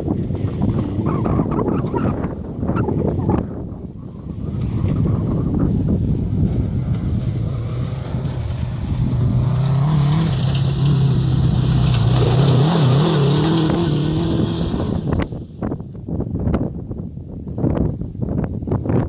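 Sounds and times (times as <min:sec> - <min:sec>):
dune buggy engine revving: 0:00.0 - 0:15.8.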